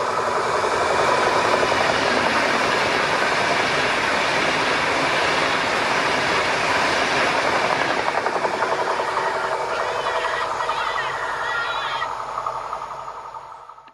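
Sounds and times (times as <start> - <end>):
high-speed train passing: 0.0 - 13.9.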